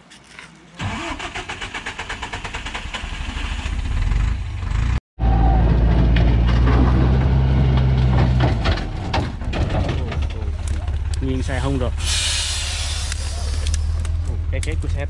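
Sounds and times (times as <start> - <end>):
diesel truck engine under load: 0.8 - 15.0.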